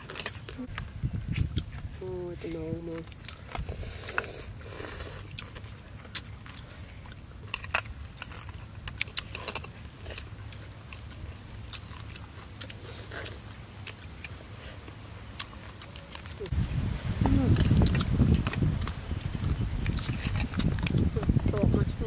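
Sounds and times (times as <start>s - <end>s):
low steady rumble: 0.0s - 22.0s
people chewing: 0.0s - 22.0s.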